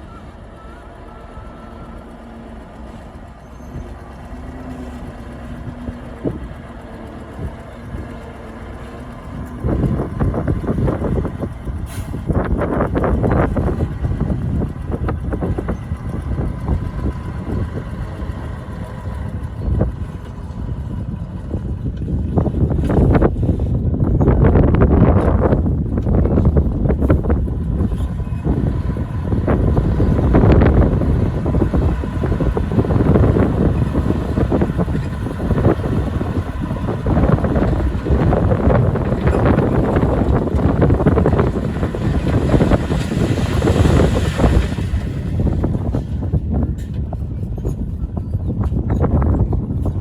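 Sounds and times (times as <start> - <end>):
diesel engine rumbling: 0.0 - 50.0
wind buffeting microphone: 0.0 - 50.0.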